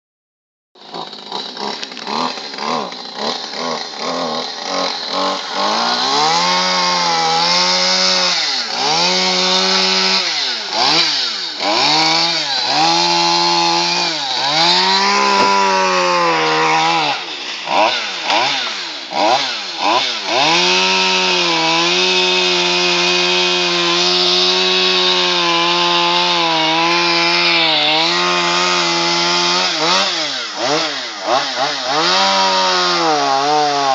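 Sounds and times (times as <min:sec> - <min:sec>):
chainsaw revving: 0:00.8 - 0:33.9.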